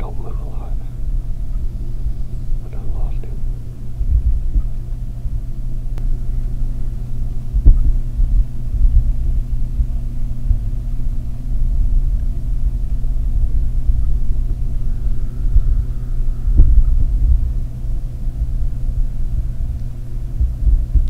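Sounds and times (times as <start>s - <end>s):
low rumble buffeting microphone: 0.0s - 21.0s.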